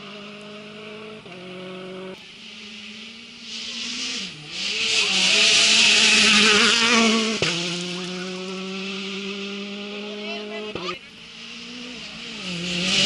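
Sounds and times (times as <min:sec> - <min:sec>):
rally car engine passing at speed: 0:00.0 - 0:13.0.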